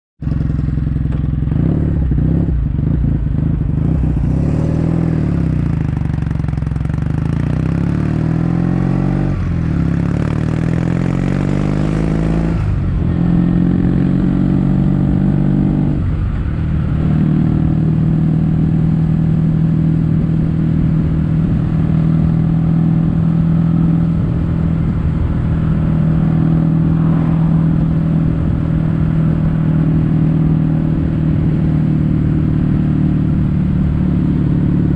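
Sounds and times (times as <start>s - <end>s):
motorcycle engine exhaust: 0.2s - 34.9s.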